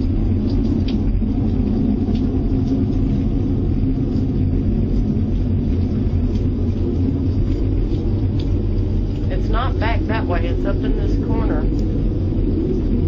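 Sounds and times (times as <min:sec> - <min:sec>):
loud low droning rumble: 0:00.0 - 0:13.0.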